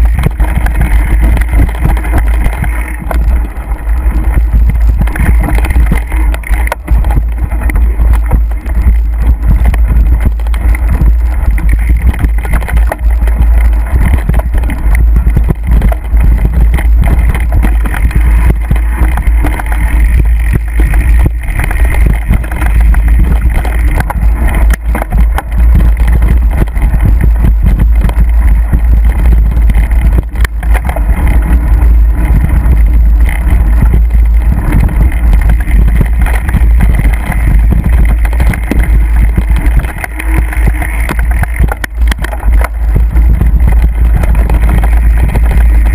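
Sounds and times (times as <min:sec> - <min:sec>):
mountain bike rattling on trail: 0:00.0 - 0:45.9
wind buffeting microphone: 0:00.0 - 0:45.9.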